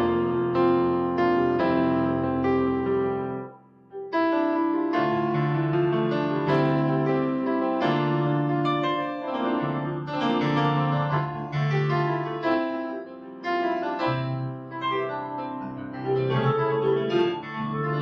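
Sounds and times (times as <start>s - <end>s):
keyboard piano chords: 0.0s - 18.0s.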